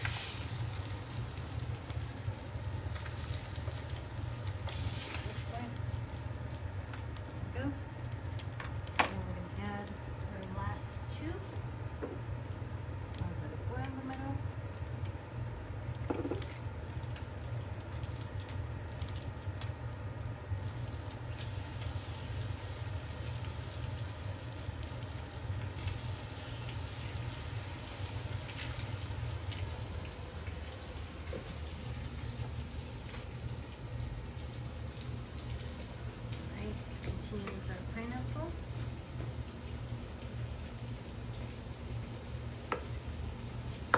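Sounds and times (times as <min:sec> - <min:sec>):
oil sizzling in frying pan: 0:00.0 - 0:43.9
steady low hum: 0:00.0 - 0:43.9.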